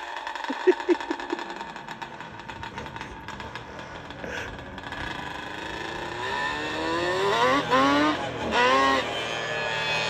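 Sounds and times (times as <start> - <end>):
quad bike engine accelerating: 0.0 - 10.0.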